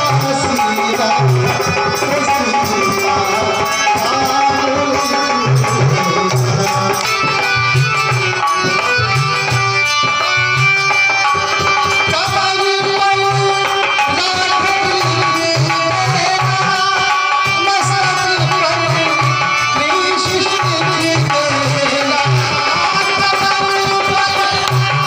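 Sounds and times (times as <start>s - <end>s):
harmonium sustained notes: 0.0s - 25.0s
steady drum rhythm: 0.0s - 25.0s.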